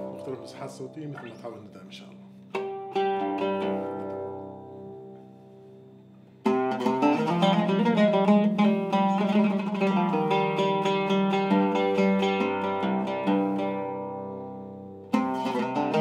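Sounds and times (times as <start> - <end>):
oud playing: 0.0 - 16.0.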